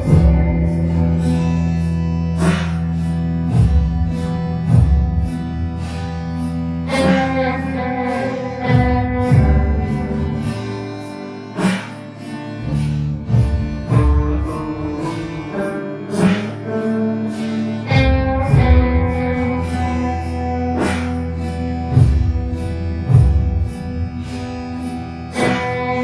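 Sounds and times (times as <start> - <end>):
plucked string notes: 0.0 - 26.0.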